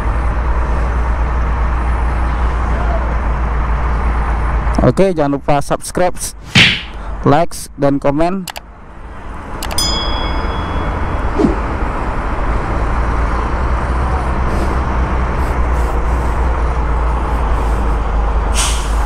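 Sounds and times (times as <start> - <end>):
heavy trucks driving past: 0.0 - 5.1, 8.7 - 19.0
road noise: 0.0 - 19.0.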